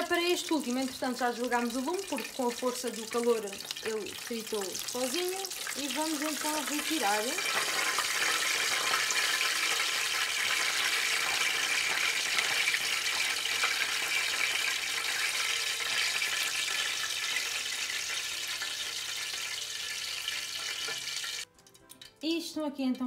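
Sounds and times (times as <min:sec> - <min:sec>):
frying oil sizzling and bubbling: 0:00.0 - 0:22.2.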